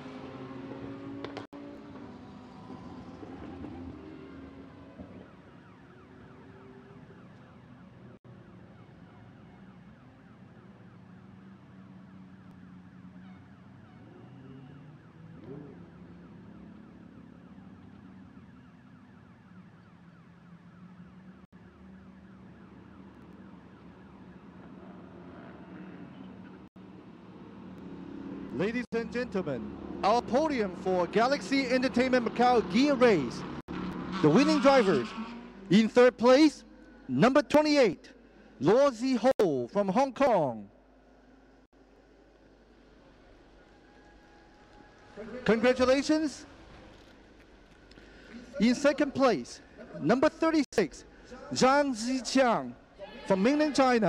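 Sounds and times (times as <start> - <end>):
race car engines at low revs: 0.0 - 54.0.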